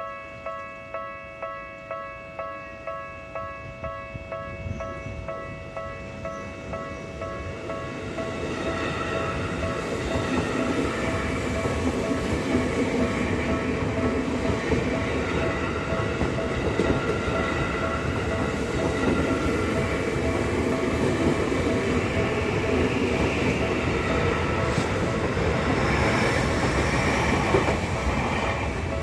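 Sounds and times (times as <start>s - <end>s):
train wheels rumbling on rail: 2.4s - 29.0s.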